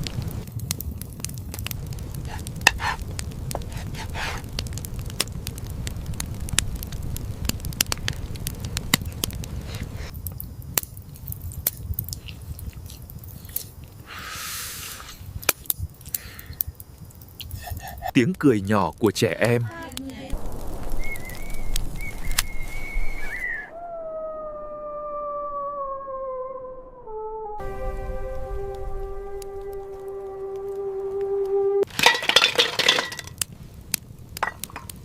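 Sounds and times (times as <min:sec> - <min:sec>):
wood fire crackling: 0:00.0 - 0:23.7, 0:27.6 - 0:35.0.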